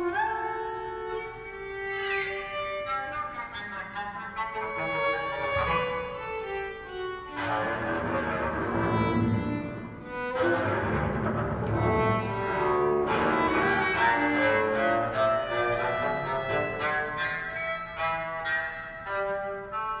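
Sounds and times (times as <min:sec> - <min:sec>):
string trio playing chamber music: 0:00.0 - 0:20.0.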